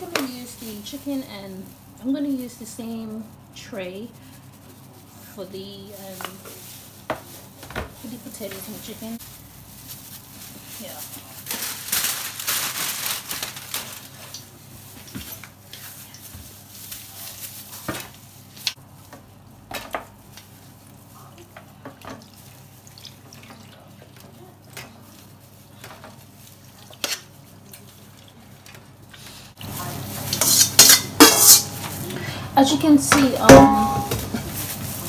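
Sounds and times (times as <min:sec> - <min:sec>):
aluminium foil crinkling: 0:00.0 - 0:35.0.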